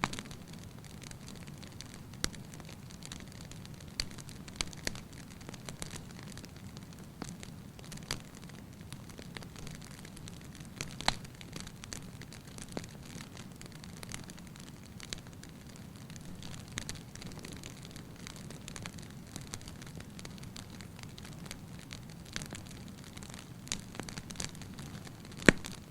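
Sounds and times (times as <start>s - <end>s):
low hiss of fire: 0.0s - 25.9s
wood fire crackling and popping: 0.0s - 25.9s.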